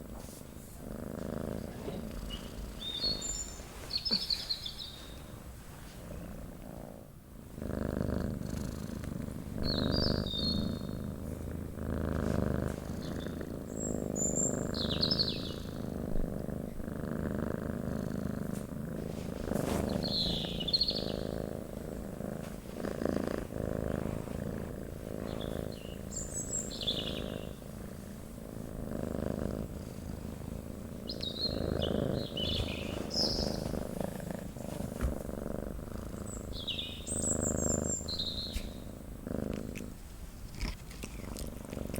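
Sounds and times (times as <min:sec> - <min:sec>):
cat purring: 0:00.0 - 0:41.9
small birds chirping: 0:01.2 - 0:06.3, 0:07.7 - 0:41.9.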